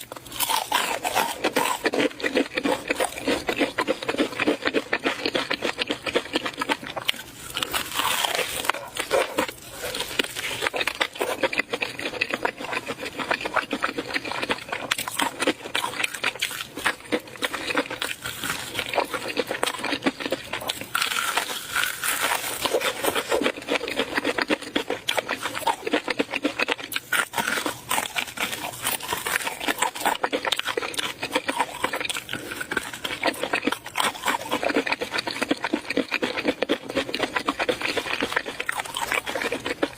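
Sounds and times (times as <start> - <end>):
chewing and mouth smacking: 0.0 - 39.9.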